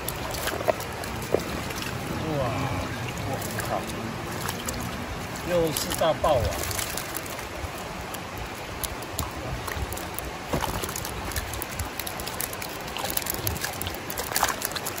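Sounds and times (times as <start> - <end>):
creek water running: 0.0 - 15.0
fish splashing in a basket: 0.0 - 15.0.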